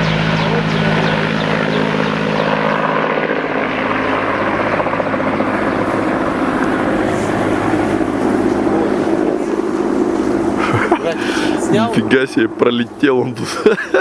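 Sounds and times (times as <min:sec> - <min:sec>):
helicopter flying close by: 0:00.0 - 0:14.0.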